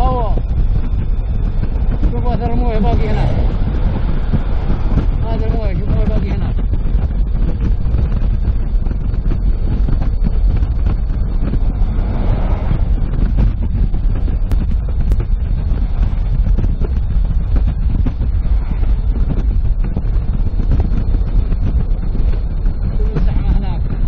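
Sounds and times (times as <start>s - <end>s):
car road rumble: 0.0s - 24.0s
wind buffeting microphone: 0.0s - 24.0s.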